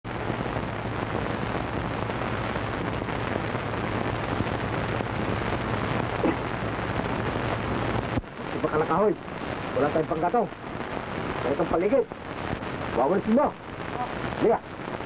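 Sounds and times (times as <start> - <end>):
film soundtrack hiss and crackle: 0.0 - 15.0
low electrical hum: 0.1 - 15.0.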